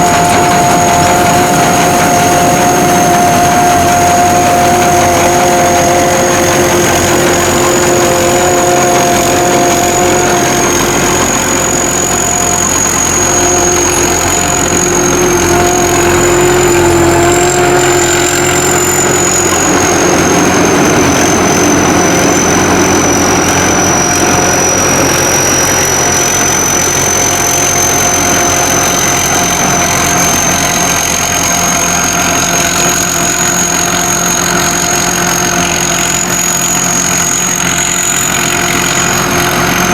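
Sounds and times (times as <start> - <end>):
combine harvester engine drone: 0.0 - 39.9
low hums: 0.0 - 39.9
steady high whine: 0.0 - 39.9.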